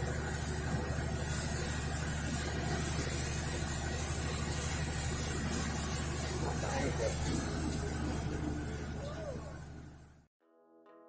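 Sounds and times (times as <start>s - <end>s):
hiss: 0.0s - 9.5s
boat engines droning: 0.0s - 10.3s.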